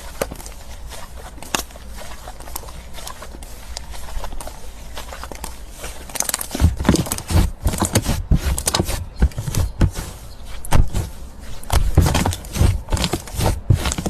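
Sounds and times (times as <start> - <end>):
slime squishing: 0.0 - 14.0.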